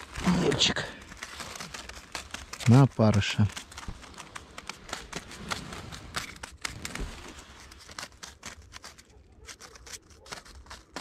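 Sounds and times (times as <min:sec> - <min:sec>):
rustling handling noise: 0:00.0 - 0:11.0.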